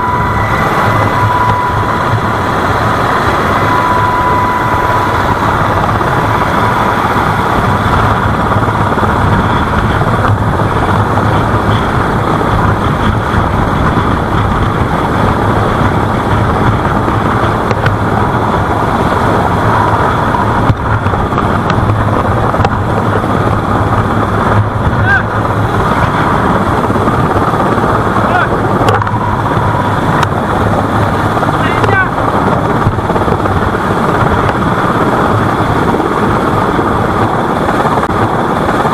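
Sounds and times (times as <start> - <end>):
engine drone: 0.0 - 38.9.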